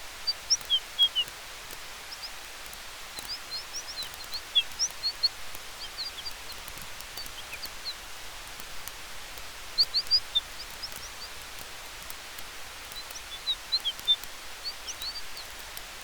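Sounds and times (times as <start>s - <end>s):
faint campfire crackles: 0.0s - 16.0s
small birds chirping: 0.0s - 16.0s.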